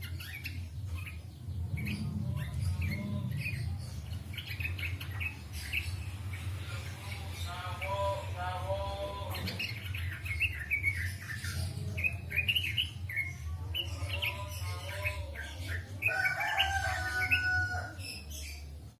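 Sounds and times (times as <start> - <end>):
songbird singing: 0.0 - 18.9.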